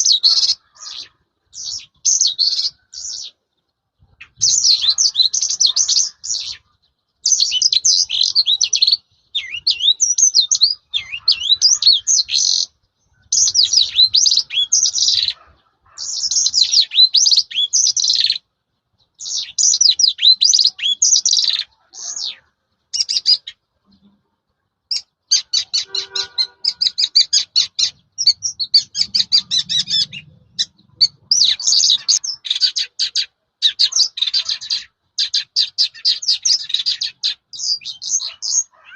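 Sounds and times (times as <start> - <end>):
lark singing: 0.0 - 24.2, 24.9 - 38.9.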